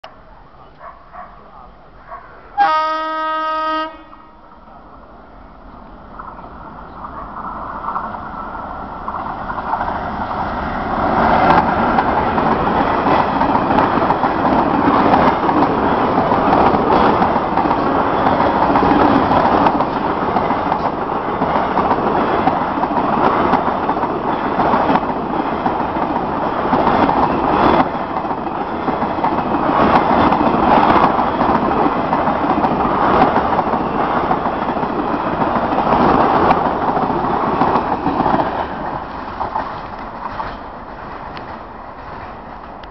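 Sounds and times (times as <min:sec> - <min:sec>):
train rumbling along tracks: 0:00.0 - 0:42.9.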